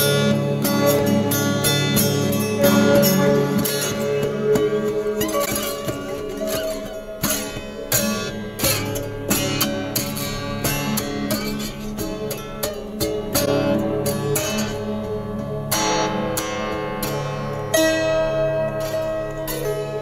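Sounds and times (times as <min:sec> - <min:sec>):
autoharp strummed notes: 0:00.0 - 0:20.0.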